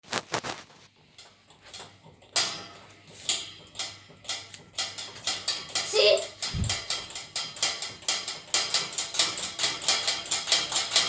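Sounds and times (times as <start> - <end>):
electric fan clicking: 1.0 - 11.0.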